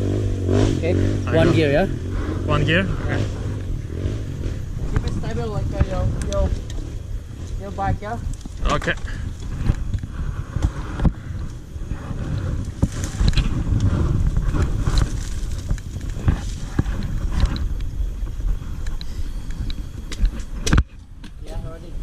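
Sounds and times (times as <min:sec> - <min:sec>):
dirt bike engine rumble: 0:00.0 - 0:22.0.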